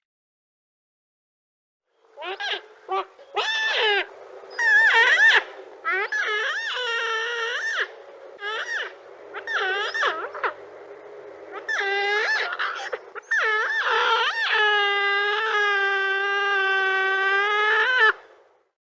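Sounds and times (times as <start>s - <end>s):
giant otter calling: 2.2s - 10.6s, 11.5s - 18.2s.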